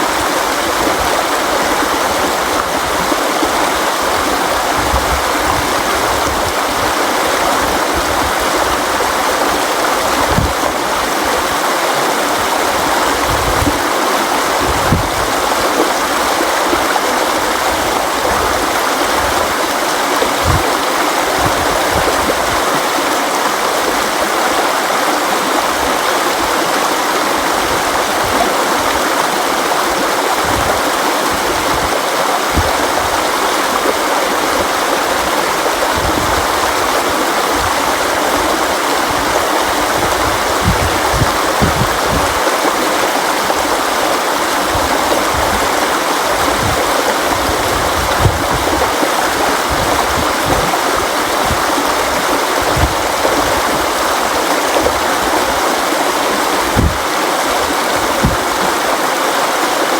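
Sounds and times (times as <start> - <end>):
low water splashes: 0.0 - 59.9
river water rushing: 0.0 - 59.9.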